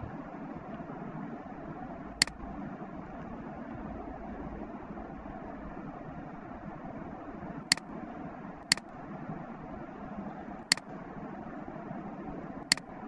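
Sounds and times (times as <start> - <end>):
low microphone hiss: 0.0 - 13.0.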